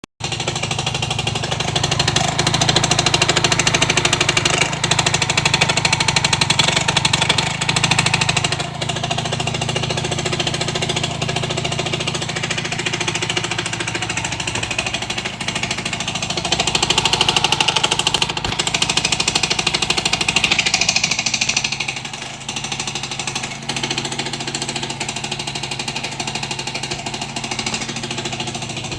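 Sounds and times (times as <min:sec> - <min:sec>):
engine running with rapid knocking: 0:00.0 - 0:28.9.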